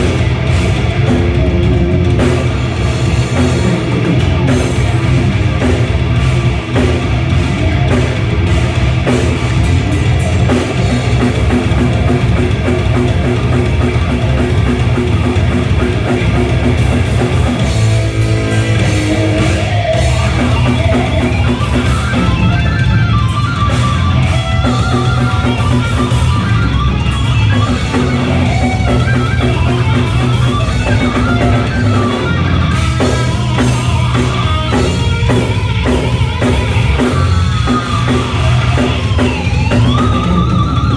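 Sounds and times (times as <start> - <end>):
loud rock music: 0.0 - 40.9.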